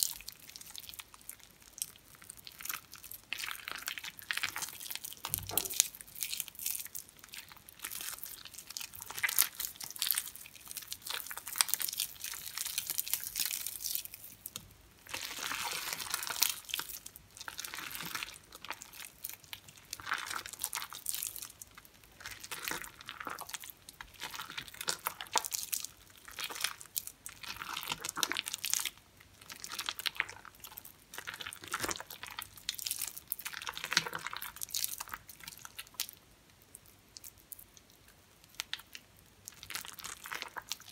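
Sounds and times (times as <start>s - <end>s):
hands squishing wet soap: 0.0s - 40.9s.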